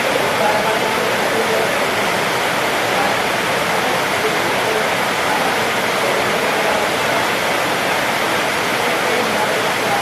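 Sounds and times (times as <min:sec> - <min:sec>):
faint voices: 0:00.0 - 0:10.0.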